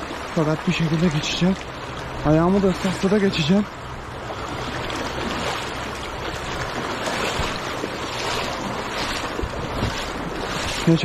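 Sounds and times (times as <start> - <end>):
person wading through water: 0.0 - 11.0
rushing river water: 0.0 - 11.0.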